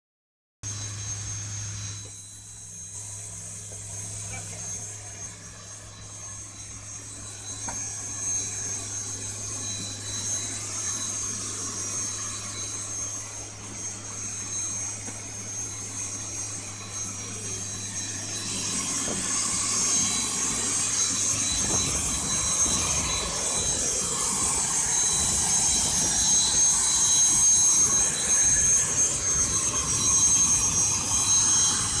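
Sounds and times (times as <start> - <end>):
low hum: 0.6 - 32.0
turbine engines whining: 0.6 - 32.0.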